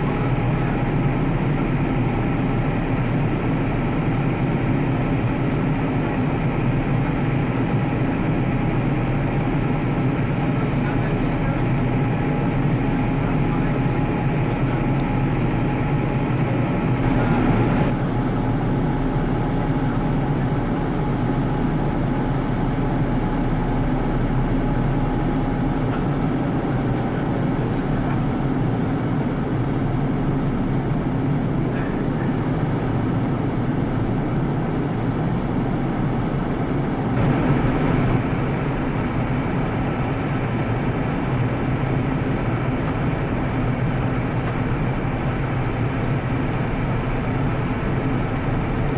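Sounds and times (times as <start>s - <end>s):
jet engines droning: 0.0s - 48.9s.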